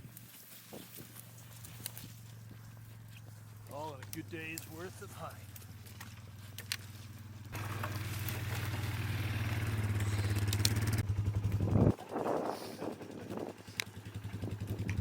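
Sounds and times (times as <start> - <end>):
vehicle engine running: 0.9 - 15.0.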